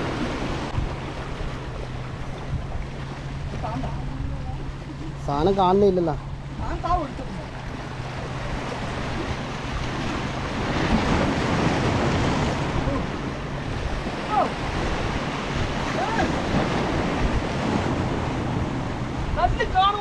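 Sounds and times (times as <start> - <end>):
waves breaking over rocks: 0.0 - 4.5, 6.6 - 20.0
wind buffeting microphone: 0.0 - 20.0.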